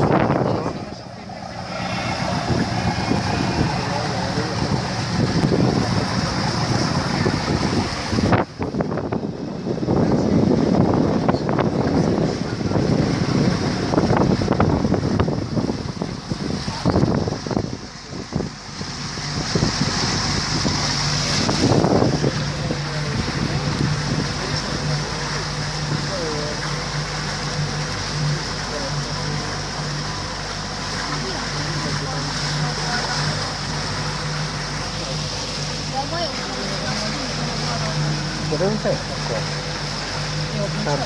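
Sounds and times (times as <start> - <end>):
motorboat engine running: 0.0 - 41.0
water rushing along hull: 0.0 - 41.0
wind buffeting microphone: 0.0 - 41.0.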